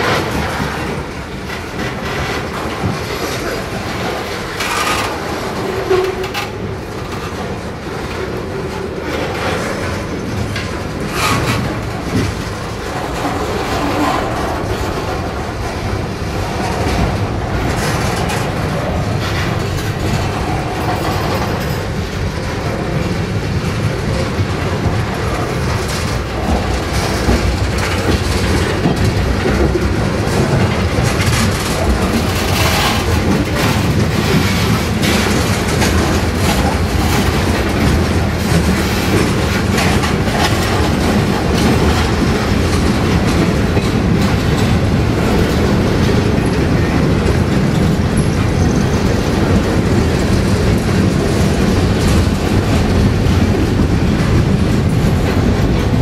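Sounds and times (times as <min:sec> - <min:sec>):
steel wheels rumbling on rail: 0:00.0 - 0:56.0
wheels clacking over rail joints: 0:00.0 - 0:56.0.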